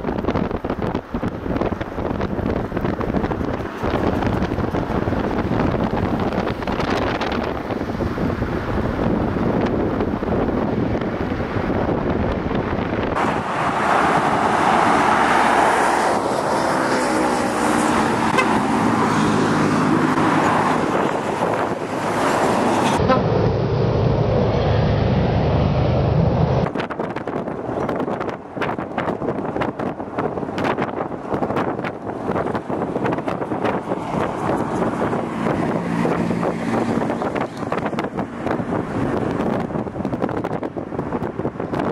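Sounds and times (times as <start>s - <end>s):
road traffic passing: 0.0s - 41.9s
vehicle engine hum: 0.0s - 41.9s
wind buffeting microphone: 0.0s - 41.9s.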